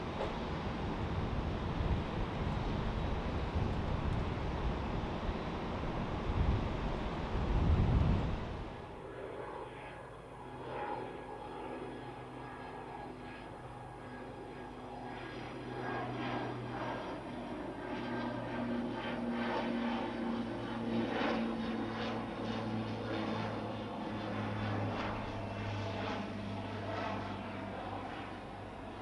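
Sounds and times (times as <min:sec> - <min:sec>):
aircraft engines passing: 0:00.0 - 0:29.0.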